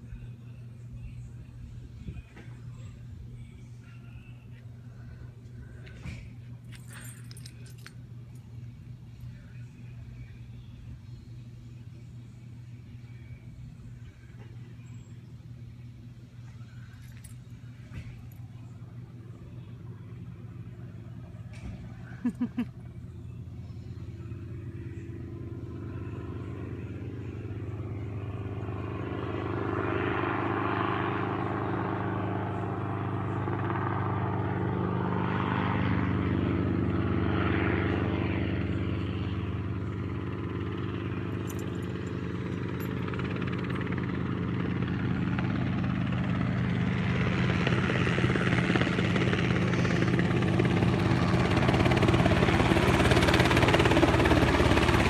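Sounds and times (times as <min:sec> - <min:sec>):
helicopter engine and rotor hum: 0:00.0 - 0:55.0.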